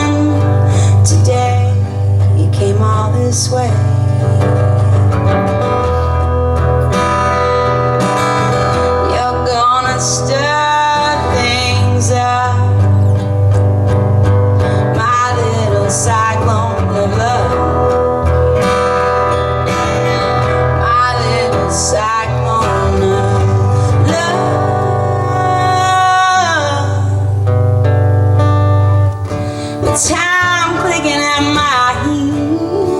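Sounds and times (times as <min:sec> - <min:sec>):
acoustic guitars playing country-folk: 0:00.0 - 0:32.9
bending lead guitar line: 0:00.0 - 0:32.9
steady bass: 0:00.0 - 0:32.9.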